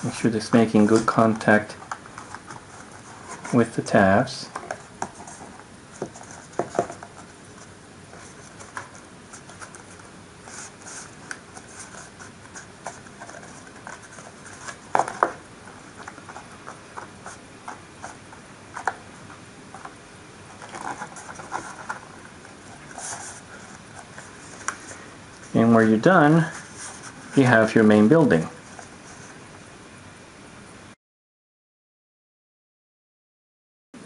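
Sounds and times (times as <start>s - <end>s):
paper rustling and scraping: 0.0s - 19.0s, 19.7s - 29.4s.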